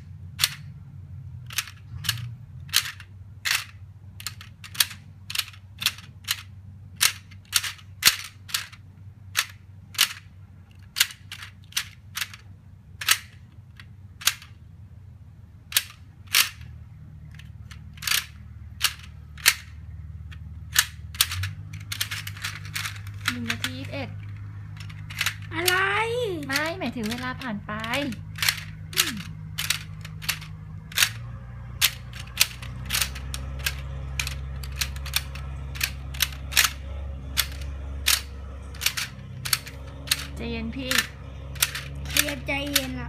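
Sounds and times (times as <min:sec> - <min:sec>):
steady low hum: 0:00.0 - 0:43.0
plastic pieces clicking into tray: 0:00.4 - 0:00.7, 0:01.5 - 0:12.4, 0:13.0 - 0:14.5, 0:15.7 - 0:16.7, 0:17.3 - 0:25.8, 0:26.4 - 0:31.2, 0:31.8 - 0:43.0.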